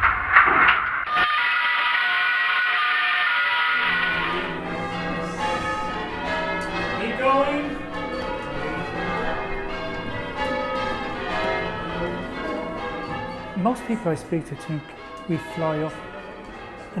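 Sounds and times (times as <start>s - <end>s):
church bells pealing: 1.1s - 17.0s.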